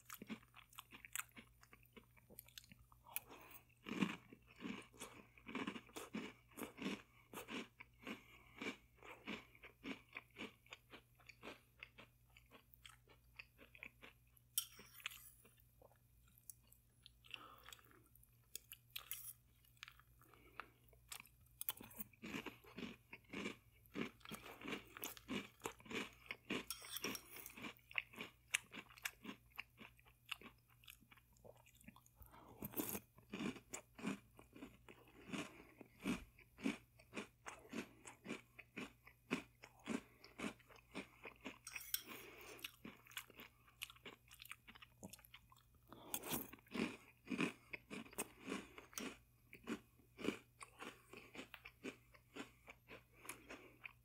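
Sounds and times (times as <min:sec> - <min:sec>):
crunchy chewing of cereal: 0:00.0 - 0:54.0.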